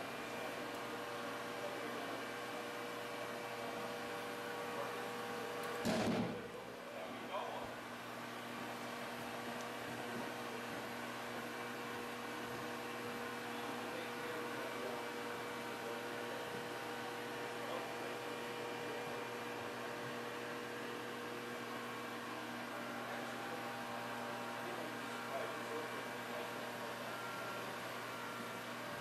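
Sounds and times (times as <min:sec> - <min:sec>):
steady machinery hum: 0:00.0 - 0:29.0.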